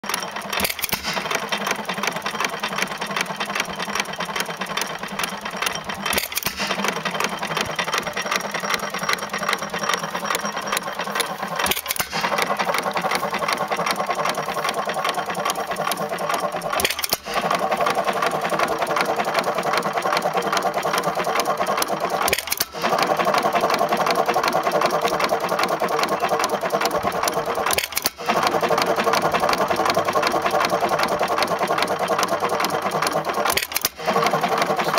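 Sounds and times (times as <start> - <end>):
gas engine running: 0.0 - 34.9.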